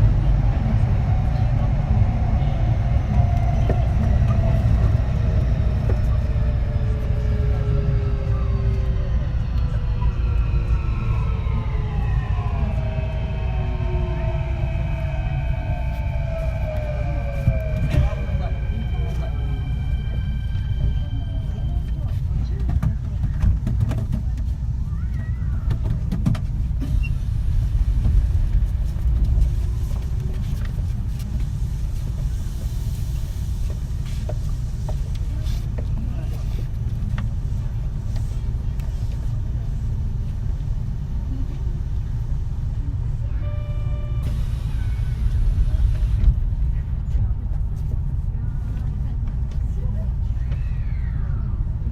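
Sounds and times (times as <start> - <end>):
heavy train running rumble: 0.0 - 51.9.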